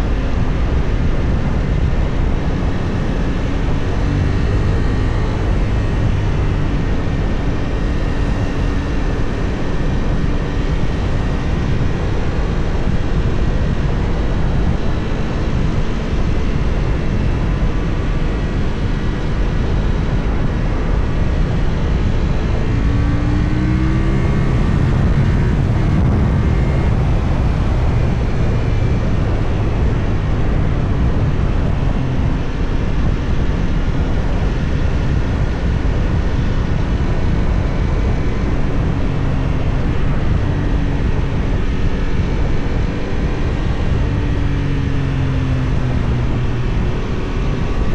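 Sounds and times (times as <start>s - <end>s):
wind noise: 0.0s - 47.9s.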